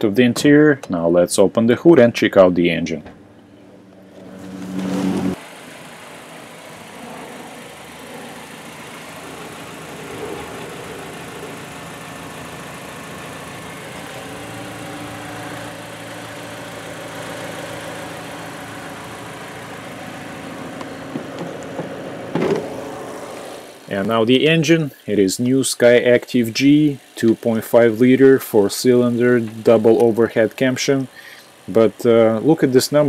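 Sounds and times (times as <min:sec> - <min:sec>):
car engine idling: 0:03.0 - 0:33.0.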